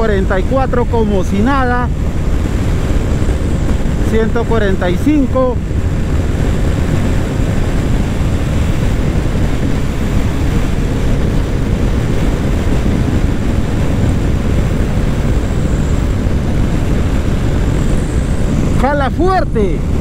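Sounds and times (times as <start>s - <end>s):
motorcycle engine drone: 0.0s - 20.0s
wind rushing over microphone: 0.0s - 20.0s.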